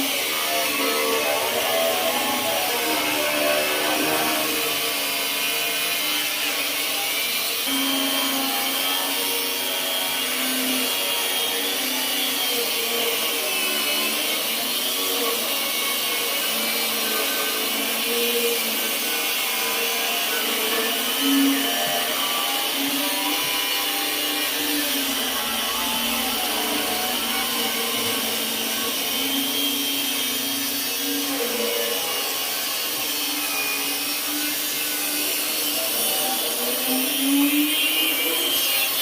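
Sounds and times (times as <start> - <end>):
angle grinder whining: 0.0 - 39.0.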